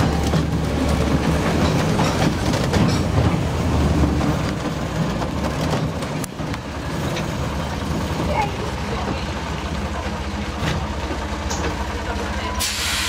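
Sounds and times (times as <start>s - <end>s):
diesel engine drone: 0.0s - 13.0s
train wheels clicking on track: 0.0s - 13.0s.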